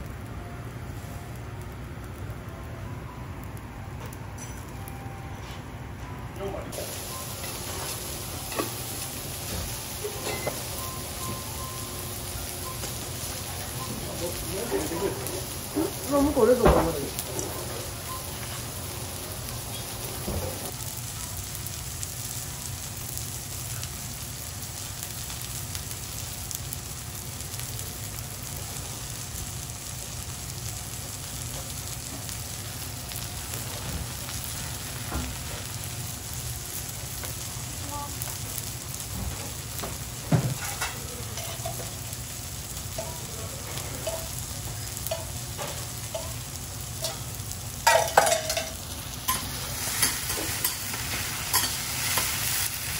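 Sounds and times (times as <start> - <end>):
food sizzling on a griddle: 0.0 - 5.6, 6.4 - 52.9.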